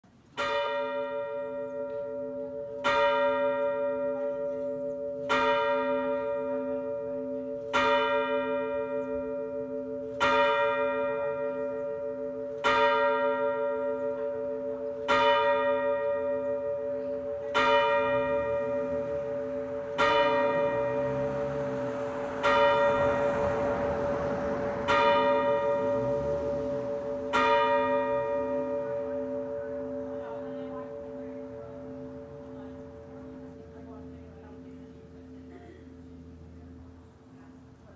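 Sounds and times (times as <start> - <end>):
church clock bell striking: 0.4 - 37.9.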